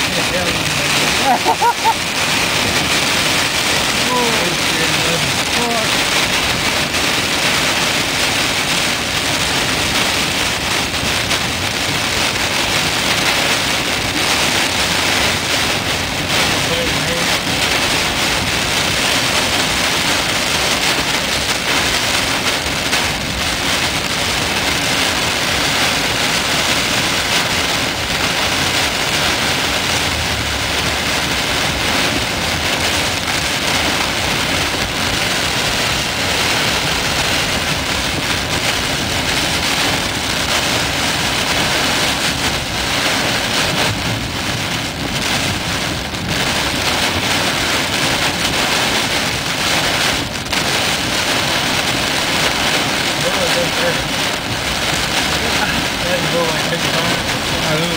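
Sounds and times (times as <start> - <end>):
heavy rain on car roof: 0.0 - 57.9.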